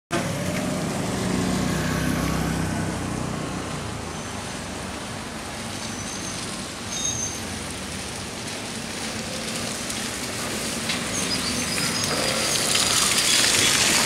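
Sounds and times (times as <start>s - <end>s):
road noise: 0.1s - 14.0s.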